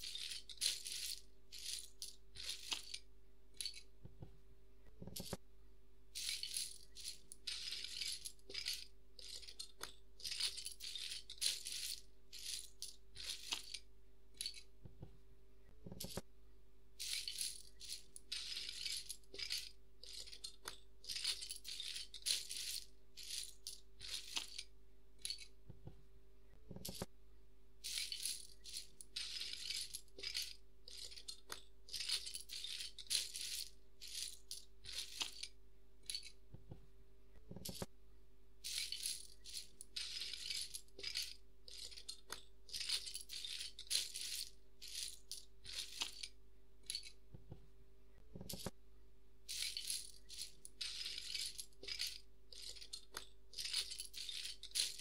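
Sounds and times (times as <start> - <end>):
plastic pieces clicking and rattling: 0.0 - 5.4, 6.1 - 15.1, 15.8 - 16.3, 17.0 - 25.9, 26.6 - 27.1, 27.8 - 36.8, 37.4 - 37.9, 38.6 - 48.8, 49.4 - 55.0.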